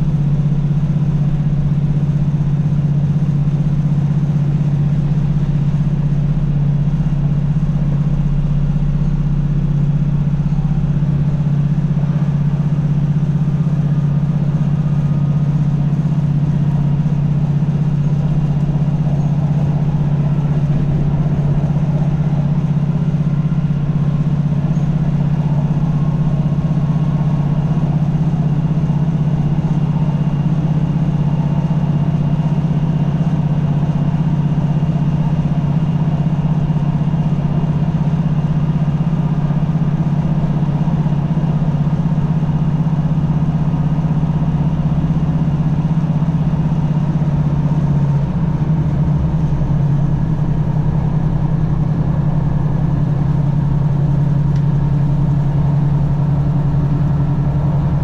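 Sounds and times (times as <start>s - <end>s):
train diesel engine drone: 0.0s - 58.0s.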